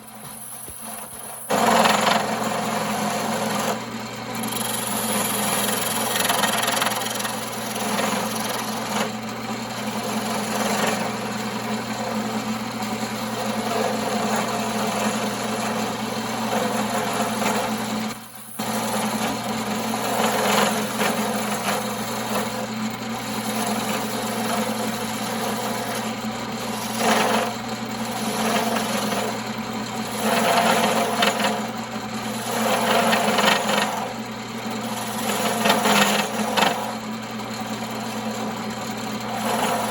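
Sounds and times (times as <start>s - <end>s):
hand tool scraping spinning wood: 0.0s - 39.9s
lathe motor hum: 0.0s - 39.9s.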